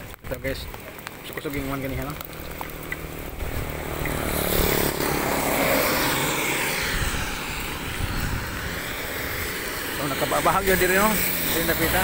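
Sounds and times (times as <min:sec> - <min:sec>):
heavy rain on wet road: 0:00.0 - 0:12.0
wind rumbling on microphone: 0:00.0 - 0:12.0.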